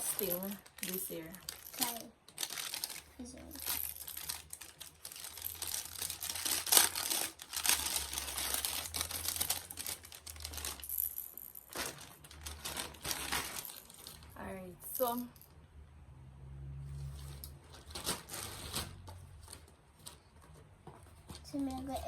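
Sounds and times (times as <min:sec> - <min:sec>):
packaging crinkling and rustling: 0:00.0 - 0:10.9, 0:11.6 - 0:14.4, 0:17.2 - 0:22.0.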